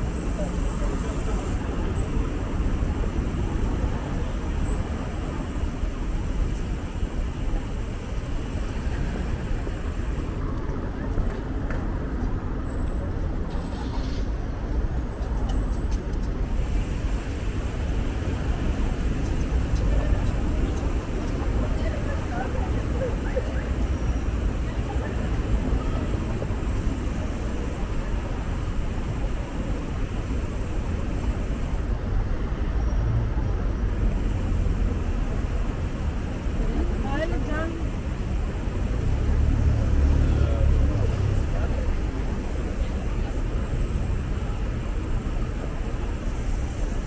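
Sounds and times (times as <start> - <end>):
bicycle road noise: 0.0 - 14.4, 15.6 - 47.0
city traffic: 0.0 - 47.0
wind: 0.0 - 47.0.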